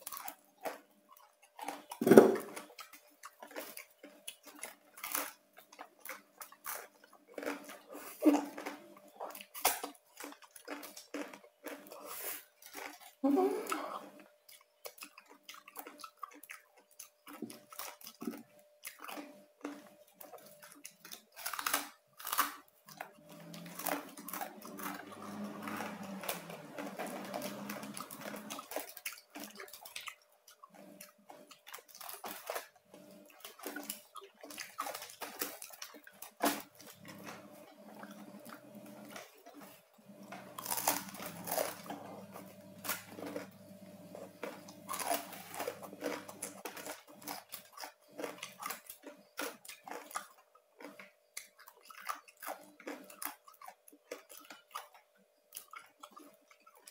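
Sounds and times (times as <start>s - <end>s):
chewing crunchy pork skin: 0.0s - 56.9s.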